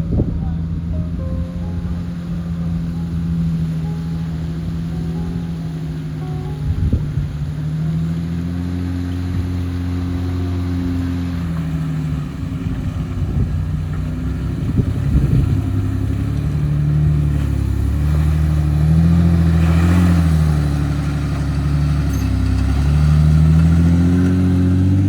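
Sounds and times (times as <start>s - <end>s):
music with low held chords: 0.0s - 25.0s.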